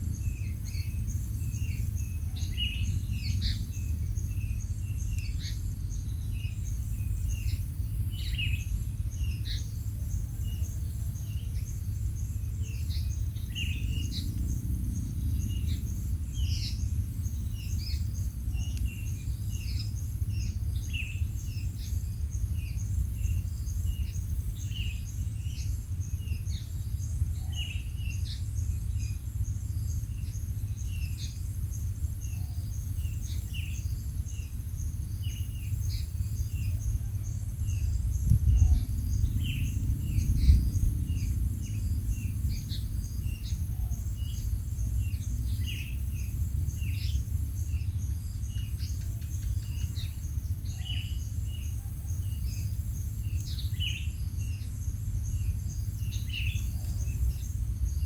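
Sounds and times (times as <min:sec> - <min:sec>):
birds chirping: 0:00.0 - 0:58.0
insect trill: 0:00.0 - 0:58.0
low rumble: 0:00.0 - 0:58.0.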